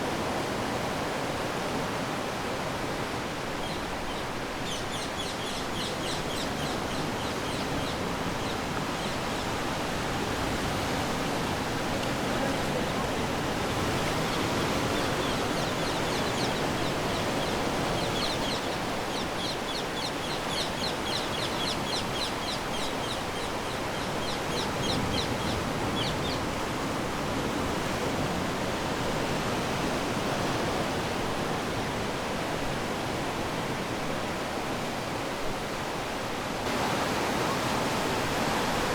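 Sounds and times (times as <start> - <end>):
ocean waves washing ashore: 0.0 - 38.9.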